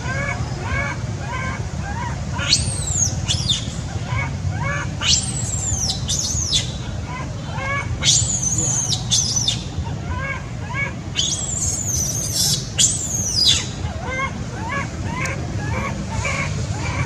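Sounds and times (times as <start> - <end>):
baby monkey screaming: 0.0 - 17.0.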